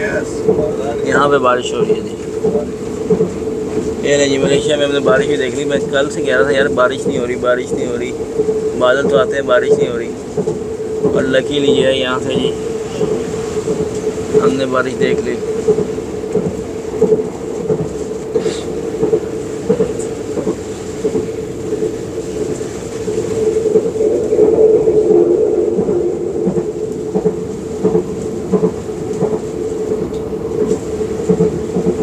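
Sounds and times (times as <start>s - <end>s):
train running hum: 0.0s - 32.0s.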